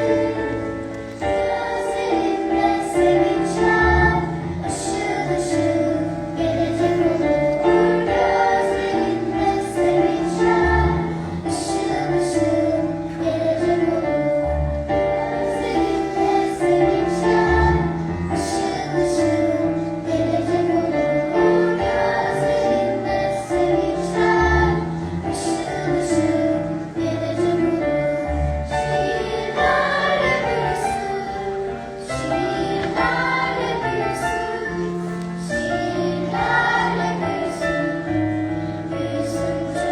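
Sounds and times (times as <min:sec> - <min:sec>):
choir singing: 0:00.0 - 0:39.9
instrumental accompaniment: 0:00.0 - 0:39.9.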